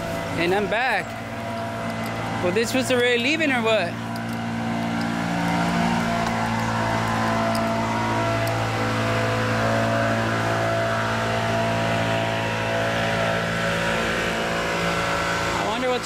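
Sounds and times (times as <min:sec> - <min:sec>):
car engine hum rolling past: 0:00.0 - 0:16.0.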